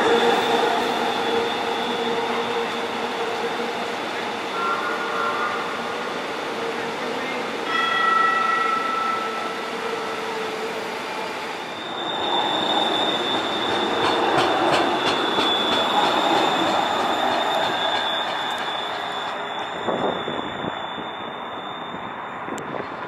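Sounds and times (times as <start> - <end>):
train running noise: 0.0 - 23.0
train wheels squealing on rails: 0.0 - 23.0.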